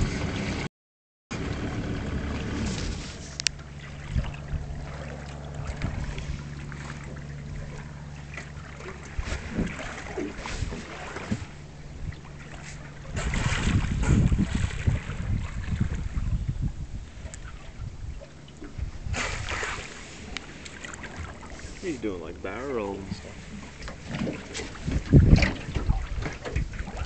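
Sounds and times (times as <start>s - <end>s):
boat engine idling: 1.3s - 19.1s, 19.9s - 27.0s
light water sounds: 1.4s - 27.0s
wind buffeting microphone: 1.4s - 27.0s.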